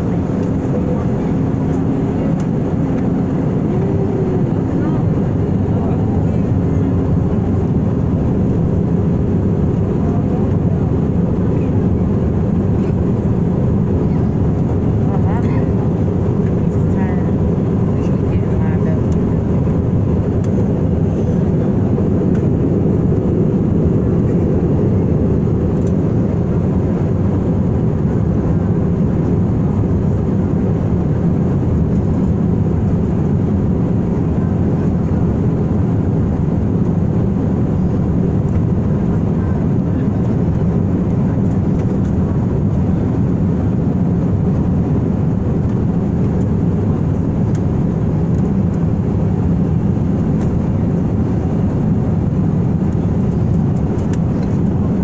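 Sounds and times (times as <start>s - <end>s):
jet cabin rumble: 0.0s - 55.0s.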